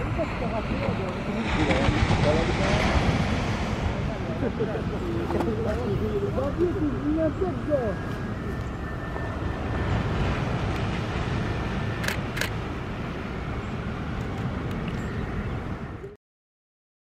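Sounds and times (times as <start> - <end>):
jet airliner roar: 0.0 - 16.2.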